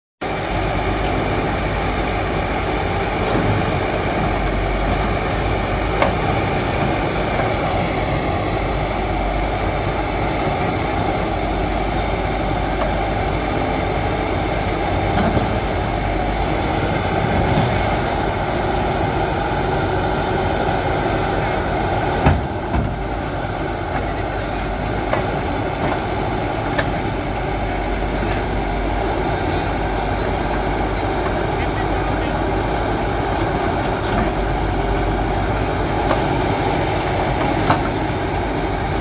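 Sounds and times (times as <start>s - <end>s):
diesel engine running: 0.2s - 39.0s.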